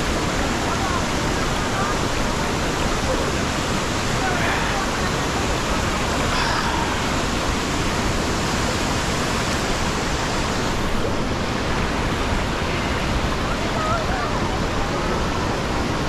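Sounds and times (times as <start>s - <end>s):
waterfall and river rapids rushing: 0.0s - 16.0s.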